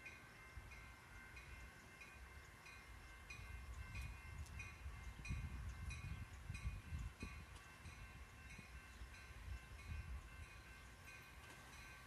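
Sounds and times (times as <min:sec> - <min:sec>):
crossing warning bell ringing: 0:00.0 - 0:12.0
low train rumble: 0:00.0 - 0:12.0.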